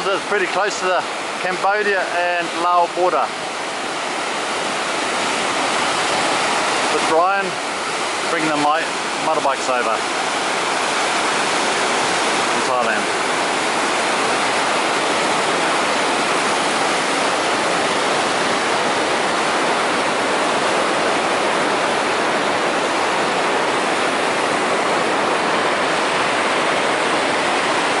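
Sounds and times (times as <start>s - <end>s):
waterfall roar: 0.0s - 28.0s.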